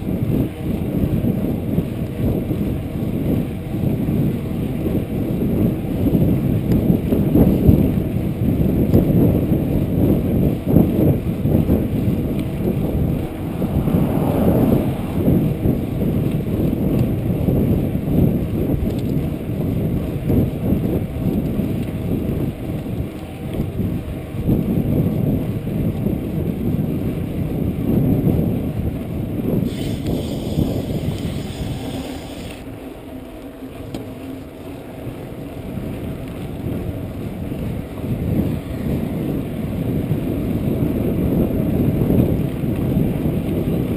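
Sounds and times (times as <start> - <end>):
tyres rumbling on pavement: 0.0 - 43.9
wind buffeting microphone: 0.0 - 43.9.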